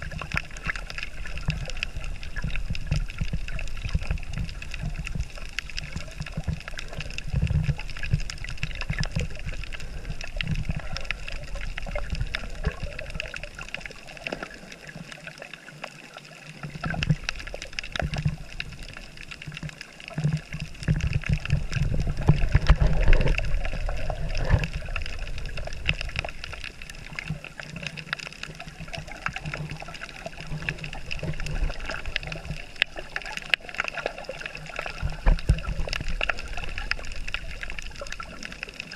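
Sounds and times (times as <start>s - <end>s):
muffled underwater water rumble: 0.0s - 38.9s.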